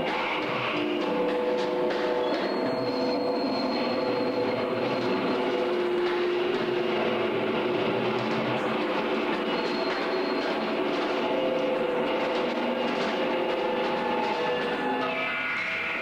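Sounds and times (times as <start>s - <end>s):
ensemble playing dense drone: 0.0s - 16.0s.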